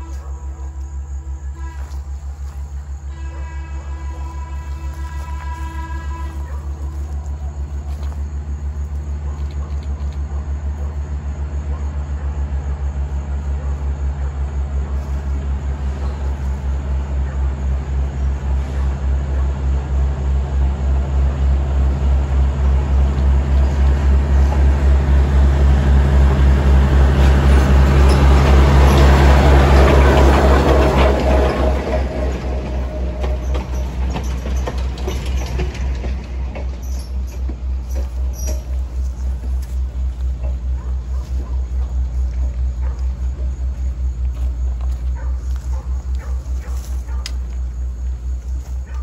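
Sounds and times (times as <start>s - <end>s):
diesel locomotive engine pulsing: 0.0s - 49.0s
train wheels on rails: 0.0s - 49.0s.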